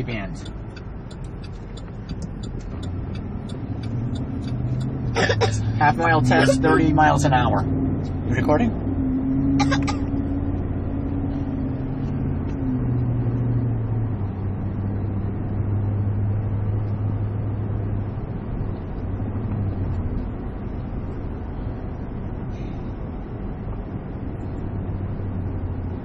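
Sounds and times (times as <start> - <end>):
car engine hum inside cabin: 0.0 - 26.0
road and tyre noise: 0.0 - 26.0.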